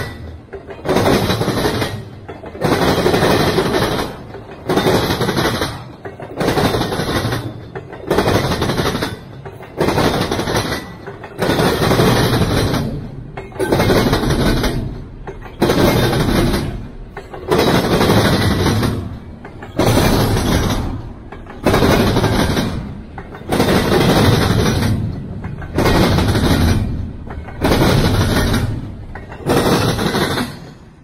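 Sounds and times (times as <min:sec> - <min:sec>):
freight cars rolling past: 0:00.0 - 0:31.0.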